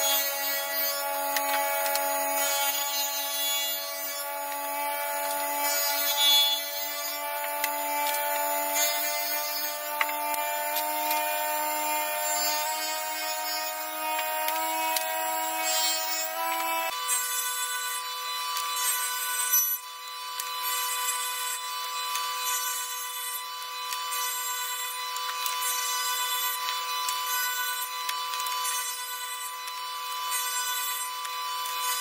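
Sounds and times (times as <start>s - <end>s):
table saw whine: 0.0s - 32.0s.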